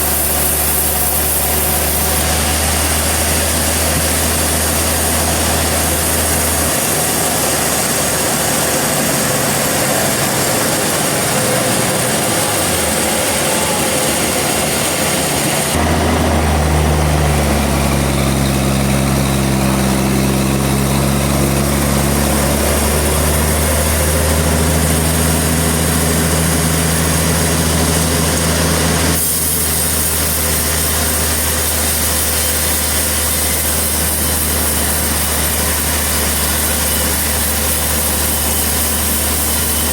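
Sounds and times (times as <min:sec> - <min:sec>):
low wandering hum: 0:00.0 - 0:39.8
sawmill machinery drone: 0:00.0 - 0:39.9.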